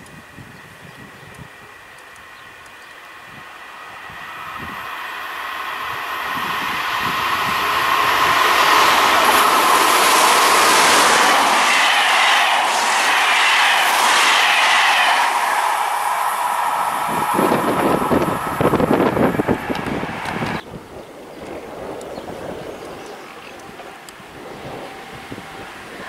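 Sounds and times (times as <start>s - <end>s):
electric train passing: 0.0s - 26.0s
wheels rushing on rail: 0.0s - 26.0s.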